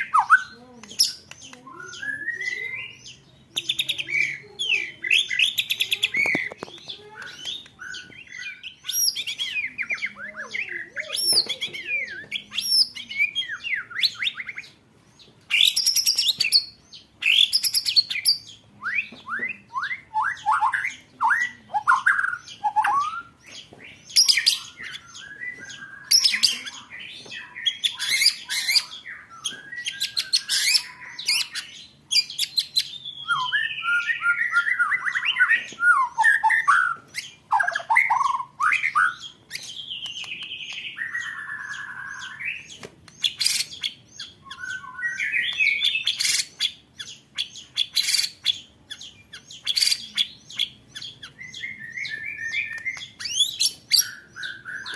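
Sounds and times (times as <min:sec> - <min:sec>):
songbird singing trills and whistles: 0:00.0 - 0:54.9.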